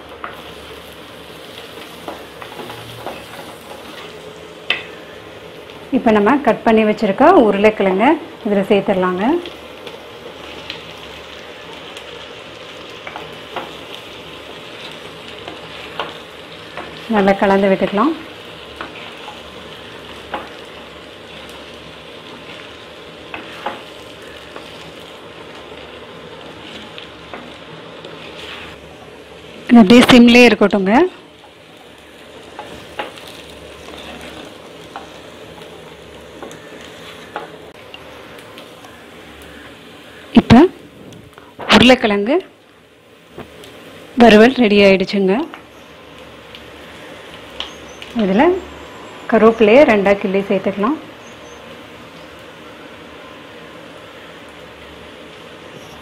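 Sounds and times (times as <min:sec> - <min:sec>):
oil sizzling in a pot: 0:00.0 - 0:56.0.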